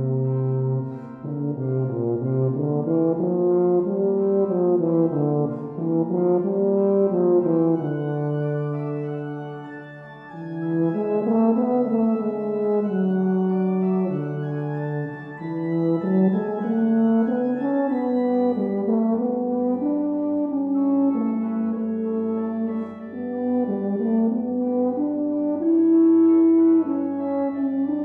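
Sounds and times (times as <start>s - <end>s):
church organ accompaniment: 0.0s - 28.0s
tuba playing slow melody: 0.0s - 28.0s.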